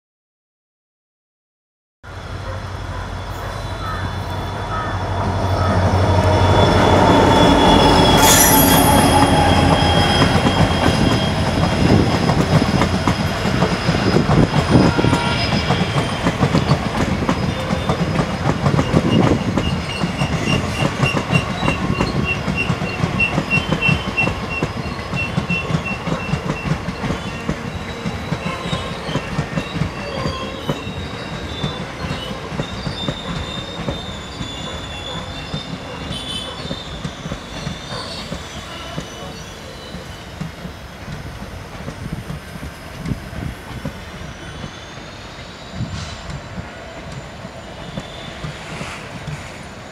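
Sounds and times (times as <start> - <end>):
train wheels squealing: 2.1 - 49.9
train clickety-clack on rails: 2.4 - 49.9.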